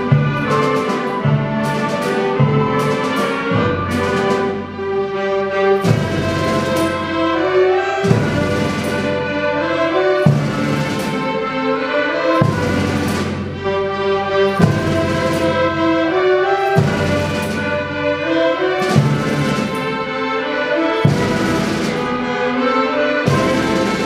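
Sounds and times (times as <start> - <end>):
timpani hits: 0.0 - 24.0
youth orchestra playing: 0.0 - 24.0.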